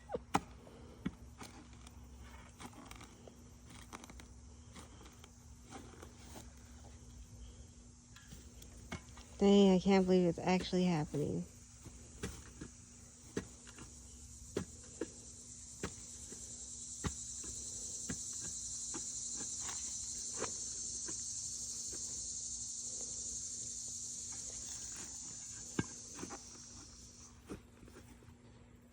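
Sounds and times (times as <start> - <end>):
high-pitched insect chorus: 3.0 - 28.2.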